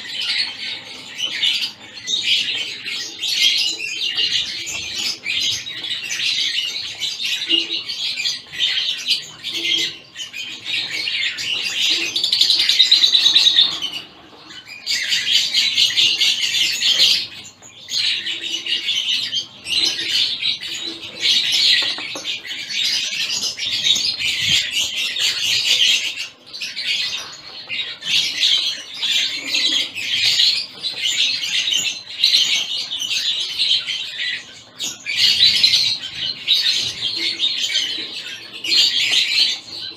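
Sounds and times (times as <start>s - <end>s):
finches chirping and calling: 0.0s - 39.9s.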